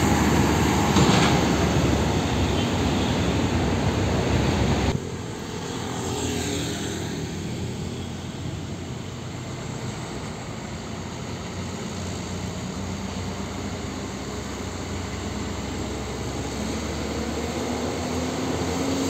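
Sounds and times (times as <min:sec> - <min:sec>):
steady diesel hum: 0:00.0 - 0:06.3, 0:07.1 - 0:19.0
diesel trucks driving by: 0:00.0 - 0:19.0.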